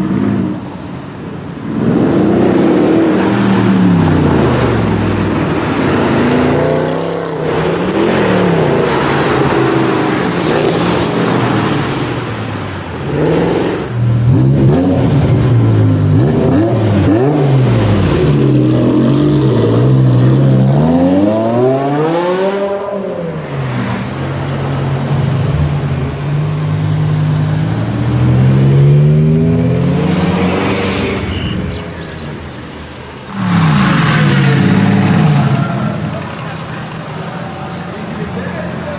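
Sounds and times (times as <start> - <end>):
car engines revving past: 0.0 - 38.9.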